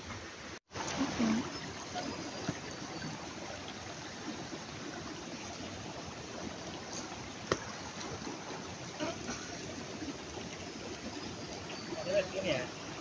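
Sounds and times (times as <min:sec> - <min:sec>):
stream flowing over pebbles: 0:00.0 - 0:13.0.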